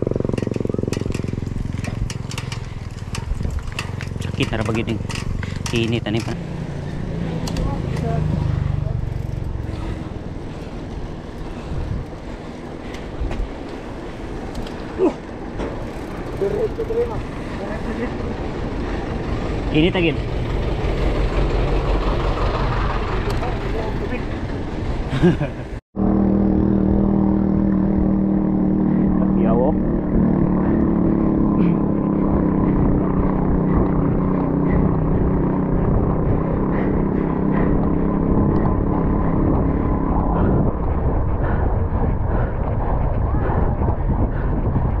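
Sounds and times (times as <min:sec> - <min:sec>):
bike tyres rolling on concrete: 0:00.0 - 0:25.4, 0:31.6 - 0:45.0
wind rushing over microphone: 0:00.0 - 0:45.0.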